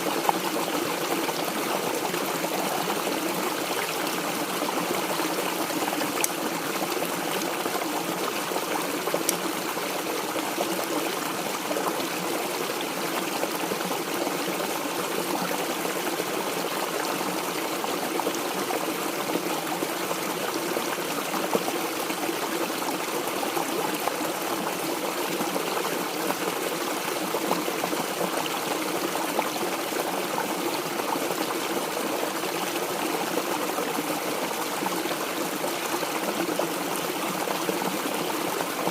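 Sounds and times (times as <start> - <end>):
stream water splashing over rocks: 0.0 - 38.9.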